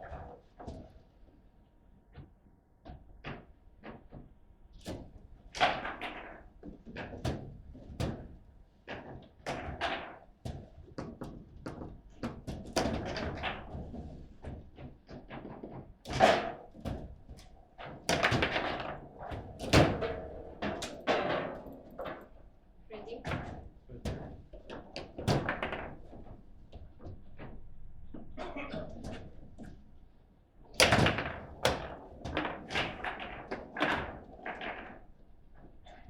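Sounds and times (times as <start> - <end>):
table football knocks and clacks: 2.2 - 22.4, 23.2 - 28.4, 30.7 - 36.0.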